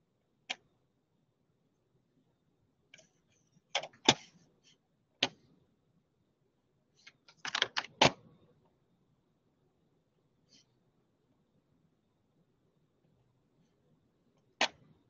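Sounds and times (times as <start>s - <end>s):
faint low room hum: 0.0s - 15.0s.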